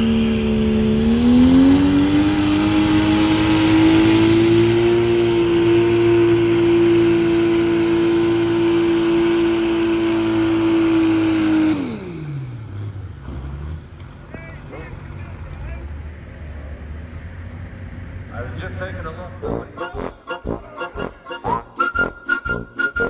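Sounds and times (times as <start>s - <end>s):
diesel engine revving under load: 0.0s - 20.4s.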